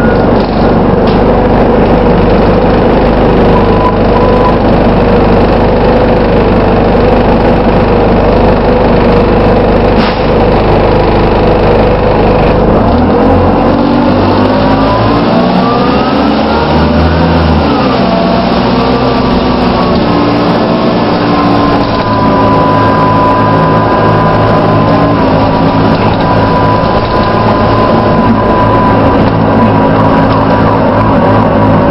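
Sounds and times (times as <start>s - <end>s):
bus engine pulling away: 0.0s - 31.9s
high whirring whine: 0.0s - 31.9s.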